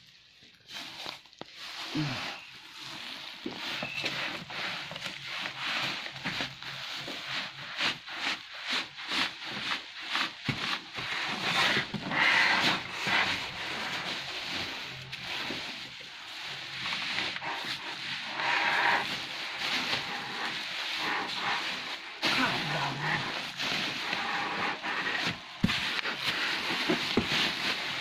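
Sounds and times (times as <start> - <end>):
plastic bag and bubble wrap crinkling: 0.0 - 28.0.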